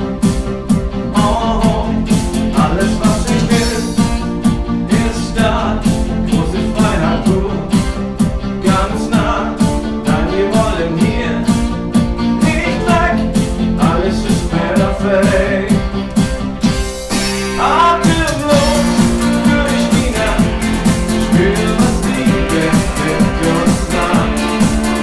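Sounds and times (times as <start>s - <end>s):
band music: 0.0s - 25.0s
steady drum beat: 0.0s - 25.0s.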